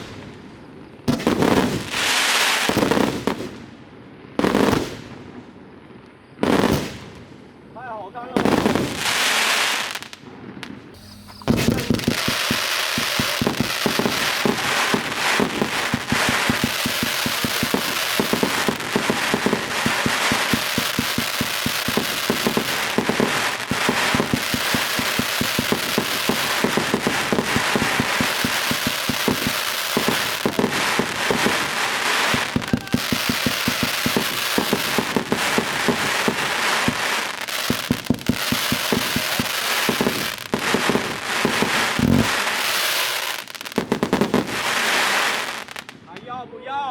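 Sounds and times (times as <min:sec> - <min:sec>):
fireworks crackling: 0:00.0 - 0:00.4, 0:01.0 - 0:03.6, 0:06.4 - 0:07.3, 0:08.3 - 0:46.2
fireworks launch bangs: 0:06.4 - 0:07.2, 0:08.4 - 0:46.0.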